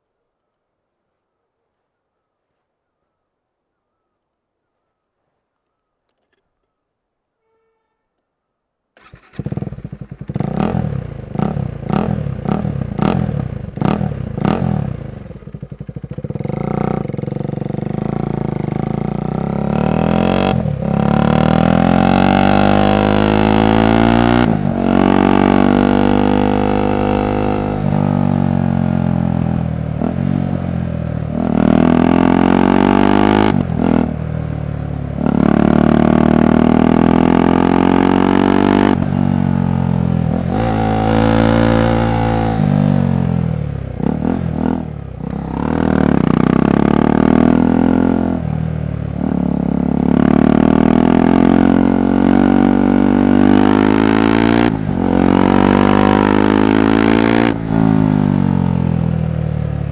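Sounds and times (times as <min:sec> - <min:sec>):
motorcycle engine revving through gears: 0:09.0 - 0:59.9.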